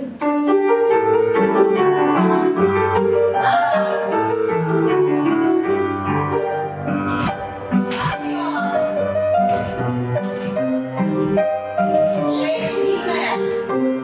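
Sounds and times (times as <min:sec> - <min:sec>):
piano playing lively tune: 0:00.0 - 0:14.0.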